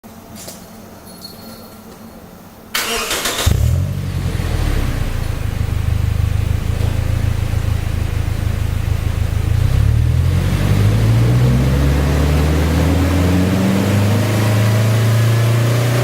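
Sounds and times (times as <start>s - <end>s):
car engine starting and idling: 2.8s - 16.0s.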